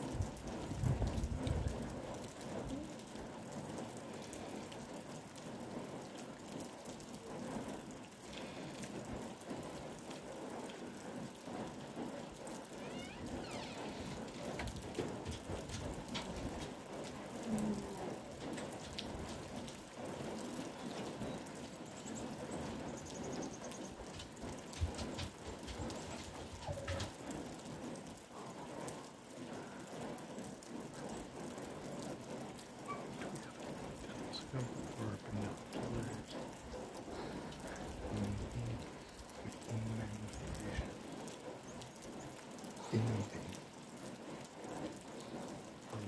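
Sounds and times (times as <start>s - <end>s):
light rain pattering: 0.0s - 46.0s.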